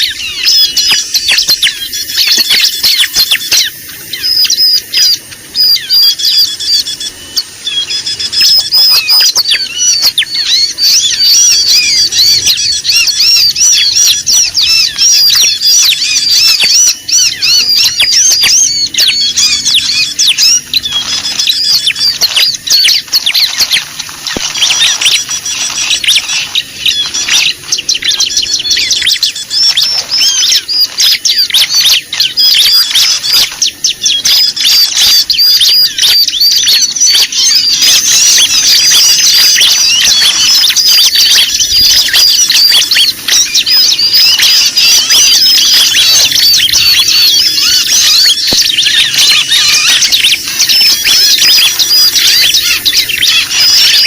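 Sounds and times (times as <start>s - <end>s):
chorus of small birds chirping: 0.0s - 54.0s.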